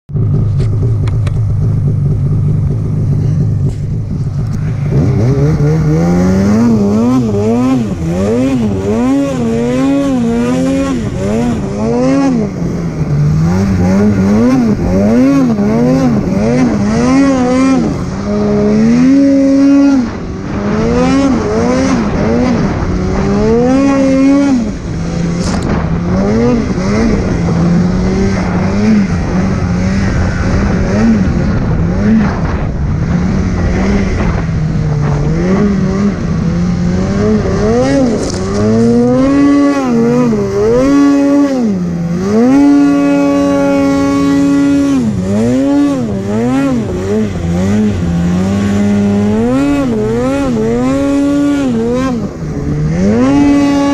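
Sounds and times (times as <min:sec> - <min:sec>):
snowmobile engine revving: 0:00.1 - 0:53.9.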